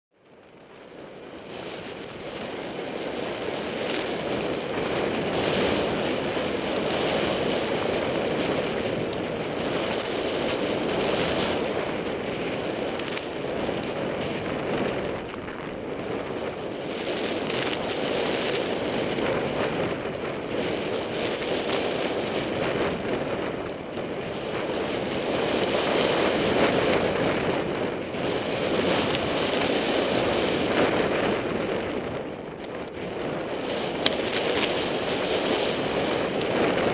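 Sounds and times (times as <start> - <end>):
wind rushing over microphone: 0.1 - 36.9.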